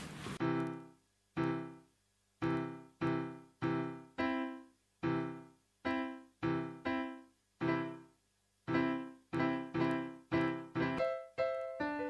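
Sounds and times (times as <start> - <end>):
slow piano chords: 0.4 - 8.1, 8.7 - 12.0.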